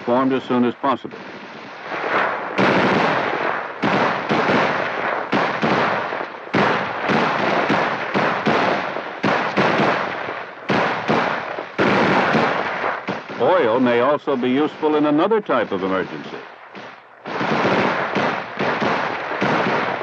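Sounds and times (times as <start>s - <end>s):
rifle shots echoing: 0.1s - 20.0s.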